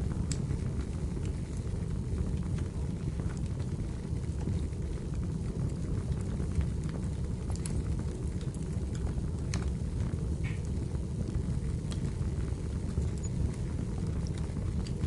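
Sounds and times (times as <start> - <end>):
fire hissing: 0.0 - 15.0
fire low rumble: 0.0 - 15.0
firewood crackling and popping: 0.0 - 15.0.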